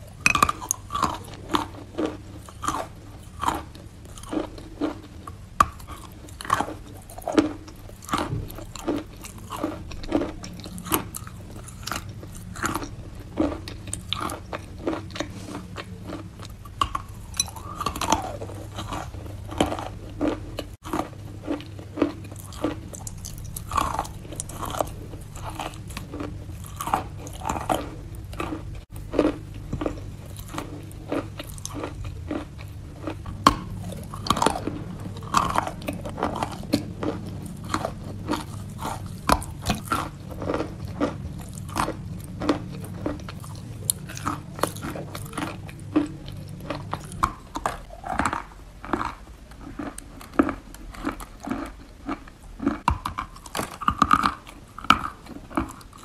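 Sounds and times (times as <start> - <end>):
chalk crunching and chewing: 0.0 - 56.0
steady low hum: 0.0 - 56.0.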